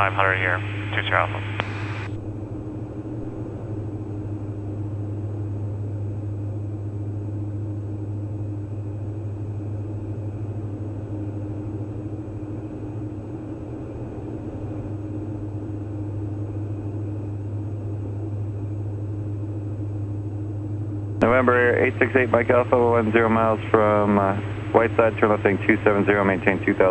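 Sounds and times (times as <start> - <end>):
aircraft engines droning: 0.0 - 26.9.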